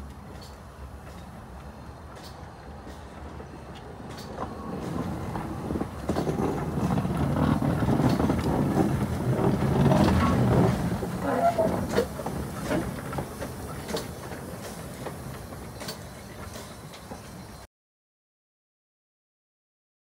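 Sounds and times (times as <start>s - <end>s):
steam locomotive running past: 0.0s - 17.7s.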